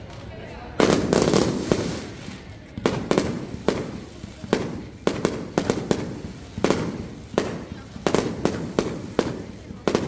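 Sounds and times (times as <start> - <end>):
fireworks bangs: 0.8 - 10.0.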